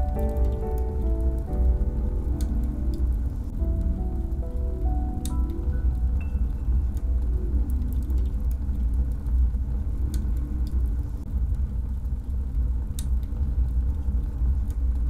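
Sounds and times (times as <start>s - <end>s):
steady deep rumble: 0.0s - 15.0s
wood stove fire crackling: 0.0s - 15.0s.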